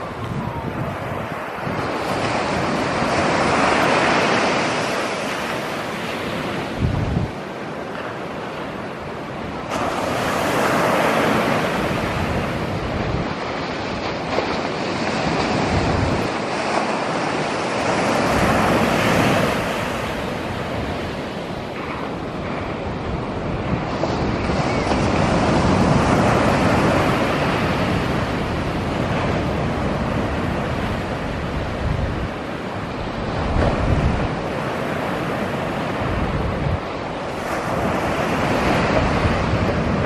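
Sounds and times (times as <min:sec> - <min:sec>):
ocean surf breaking: 0:00.0 - 0:40.0
wind rumbling on microphone: 0:00.0 - 0:40.0.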